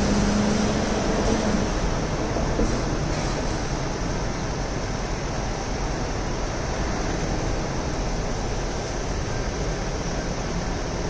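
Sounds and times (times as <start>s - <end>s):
city street background noise: 0.0s - 11.0s.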